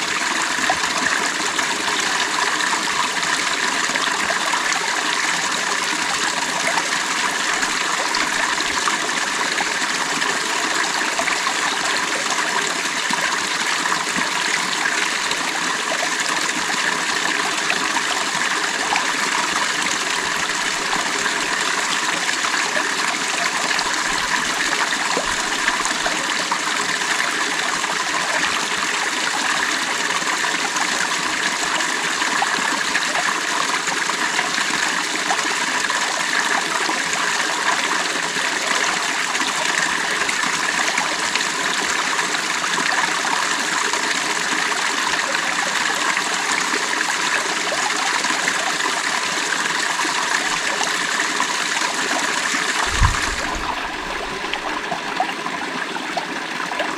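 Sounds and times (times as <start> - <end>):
creek water running over rocks: 0.0 - 56.9.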